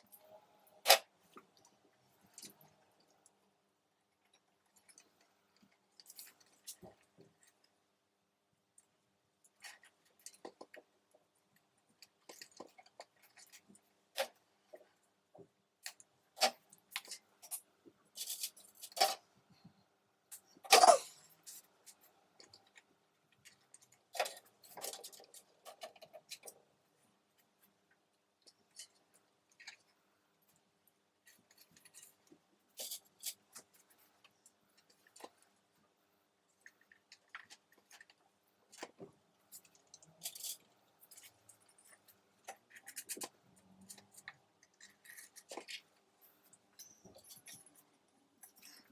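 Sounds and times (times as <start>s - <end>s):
hands clicking and tapping materials: 8.6s - 48.9s.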